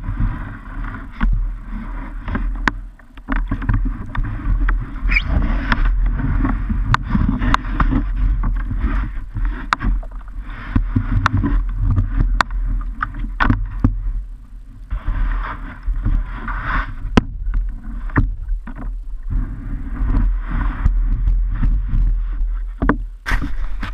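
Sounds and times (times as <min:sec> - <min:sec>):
knocks and scrapes on kayak hull: 0:00.0 - 0:23.9
low rumble: 0:00.0 - 0:23.9
water sloshing: 0:00.0 - 0:23.9.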